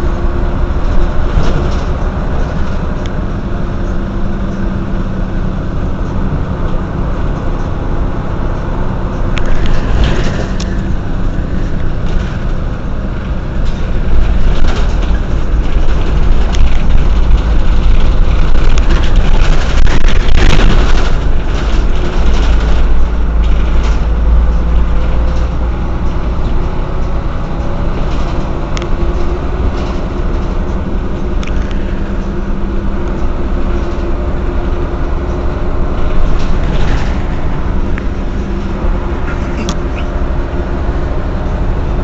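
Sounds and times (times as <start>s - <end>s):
bus engine rumble: 0.0s - 42.0s.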